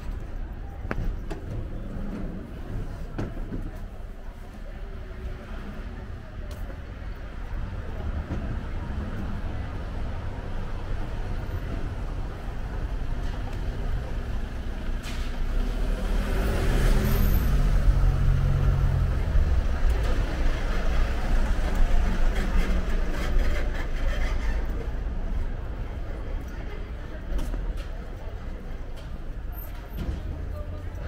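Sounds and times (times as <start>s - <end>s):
low rumble of street noise: 0.0s - 31.0s.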